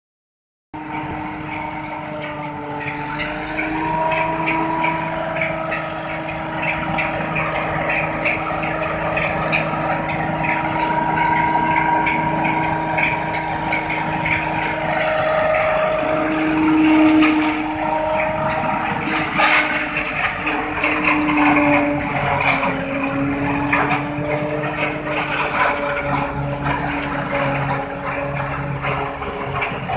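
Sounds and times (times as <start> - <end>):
harvester machine whine: 0.8 - 29.9
tractor engine: 0.8 - 29.9.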